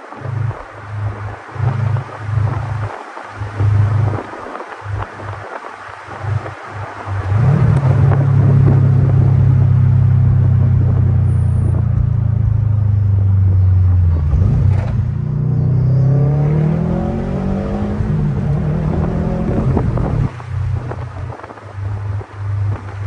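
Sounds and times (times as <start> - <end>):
car engine droning and accelerating: 0.0 - 23.0.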